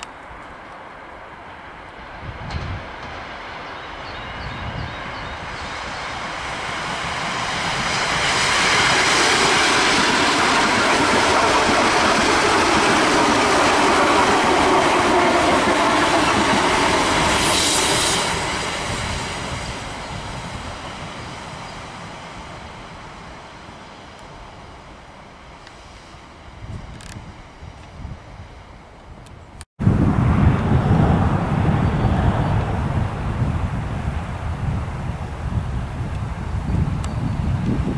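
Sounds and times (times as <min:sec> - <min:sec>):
train rumbling past: 0:00.0 - 0:26.9, 0:29.8 - 0:37.9.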